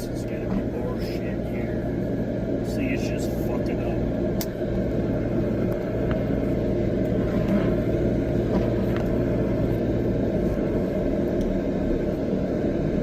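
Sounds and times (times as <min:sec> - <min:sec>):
diesel engine drone from inside cab: 0:00.0 - 0:13.0.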